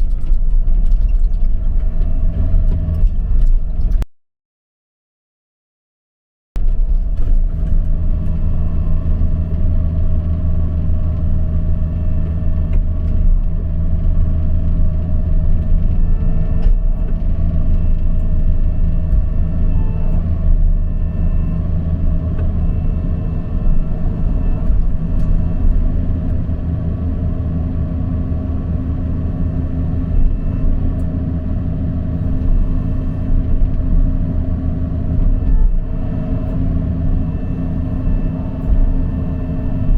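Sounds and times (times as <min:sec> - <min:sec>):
diesel engine rumbling: 0:00.0 - 0:04.1, 0:06.6 - 0:39.9.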